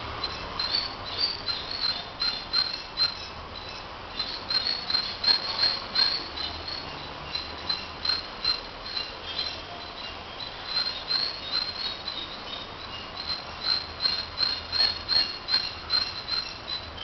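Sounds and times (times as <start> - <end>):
small bird chirping: 0.2 - 17.0.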